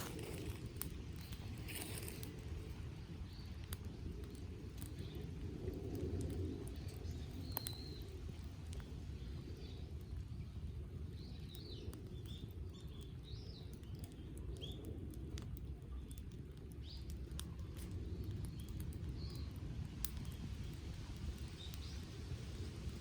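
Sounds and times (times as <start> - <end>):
campfire crackling: 0.0 - 23.0
low steady rumble: 0.0 - 23.0
small birds chirping: 0.0 - 23.0.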